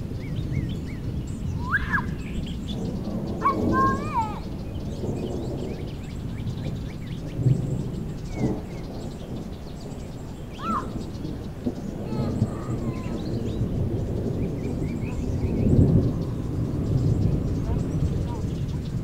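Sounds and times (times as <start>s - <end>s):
birds chirping: 0.0s - 19.0s
distant thunder rumbling: 0.0s - 19.0s.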